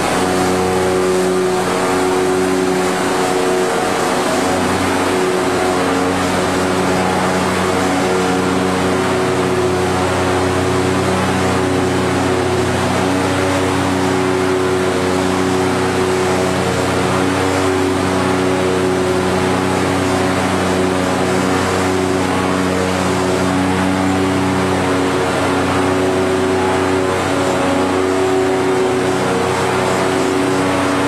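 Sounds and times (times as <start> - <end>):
production line machine drone: 0.0 - 31.0.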